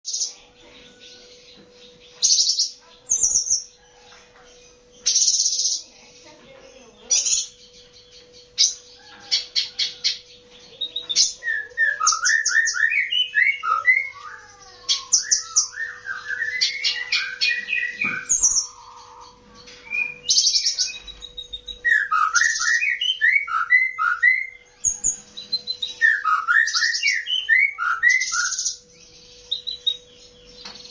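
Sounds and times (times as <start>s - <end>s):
songbird singing trills: 0.0s - 30.9s.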